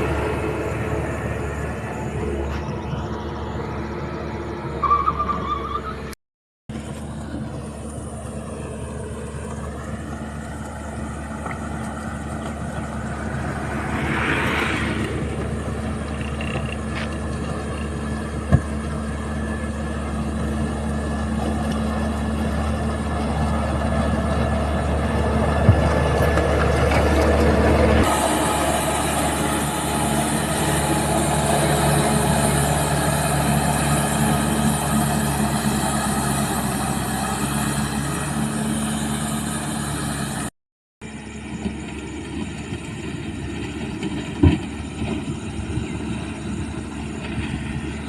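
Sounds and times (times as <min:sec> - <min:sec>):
heavy vehicle engine running: 0:00.0 - 0:48.0.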